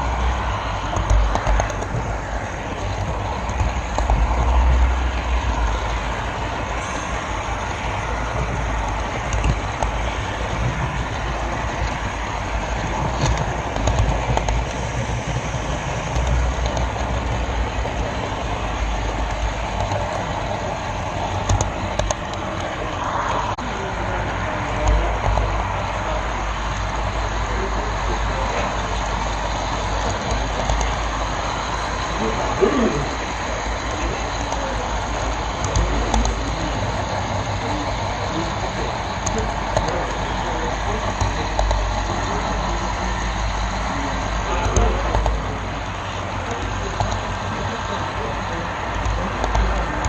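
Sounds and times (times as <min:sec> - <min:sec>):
model train wheels rumbling: 0:00.0 - 0:50.0
scattered clicks: 0:00.2 - 0:23.6, 0:24.7 - 0:26.0, 0:26.7 - 0:50.0.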